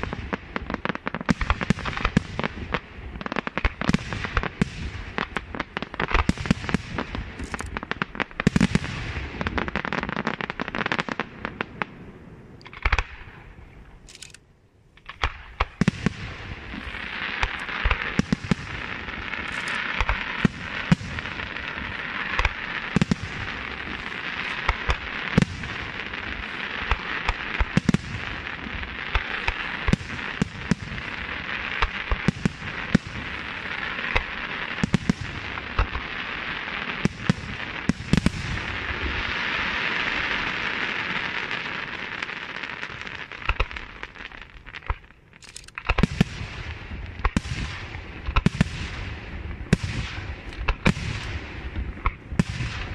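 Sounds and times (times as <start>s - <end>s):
firework shells bursting with bangs: 0.0s - 11.9s, 12.6s - 13.4s, 15.0s - 52.9s
fireworks crackling: 0.0s - 52.9s.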